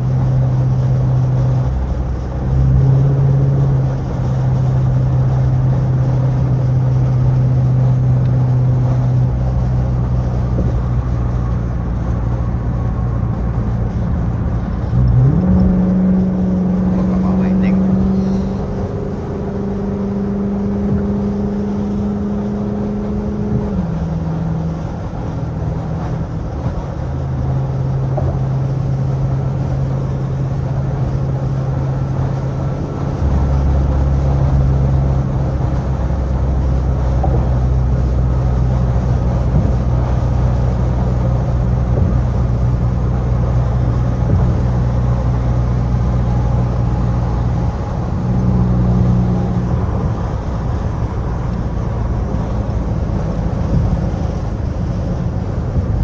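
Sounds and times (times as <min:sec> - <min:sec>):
car exhaust droning: 0:00.0 - 0:56.0
deeper drone: 0:00.0 - 0:56.0.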